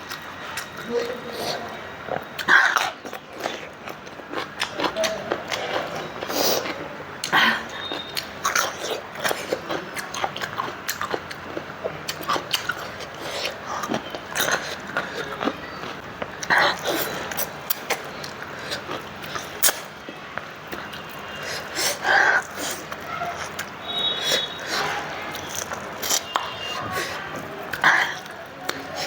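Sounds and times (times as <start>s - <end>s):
person biting and chewing food: 0.1s - 29.0s.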